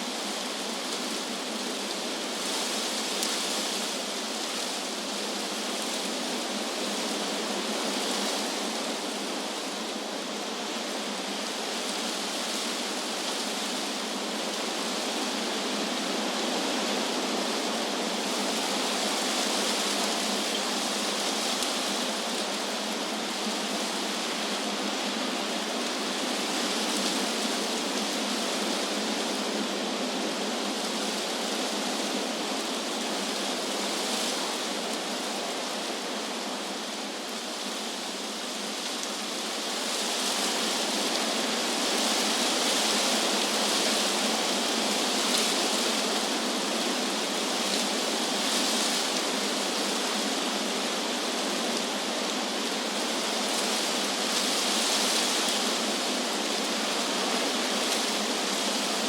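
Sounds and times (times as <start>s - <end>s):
wind rushing through trees: 0.0s - 59.0s.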